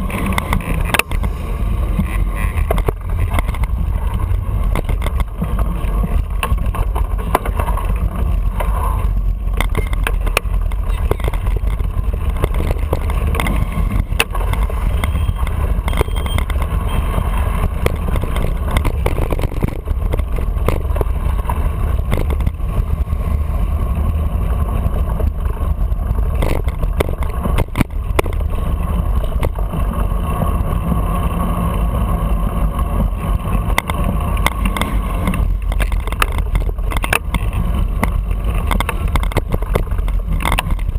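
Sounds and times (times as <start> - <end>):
bicycle knocks and rattles: 0.0 - 23.4, 24.2 - 40.9
road vibration rumble: 0.0 - 40.9.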